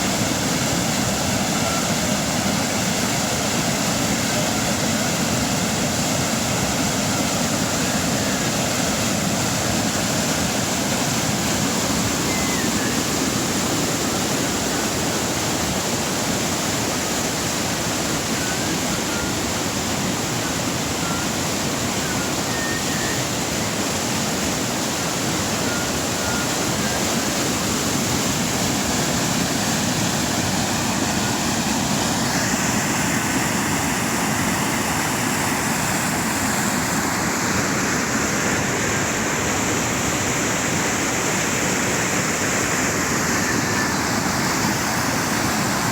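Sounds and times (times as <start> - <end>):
river gurgling and rushing: 0.0 - 45.9.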